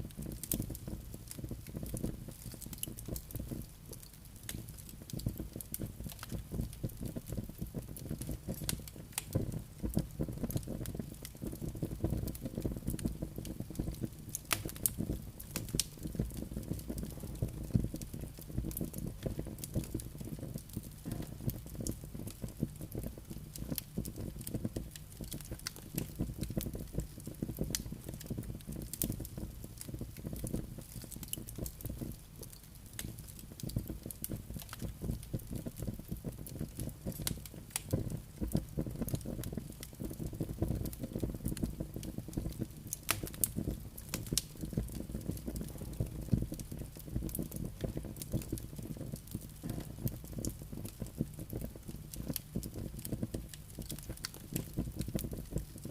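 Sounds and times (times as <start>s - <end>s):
fire crackles and pops: 0.0s - 55.9s
low rumble of flames: 0.0s - 55.9s.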